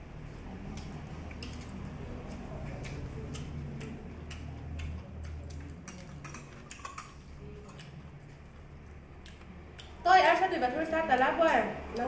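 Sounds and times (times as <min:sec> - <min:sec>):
low steady hum: 0:00.0 - 0:12.0
chewing and lip smacks: 0:00.3 - 0:10.0.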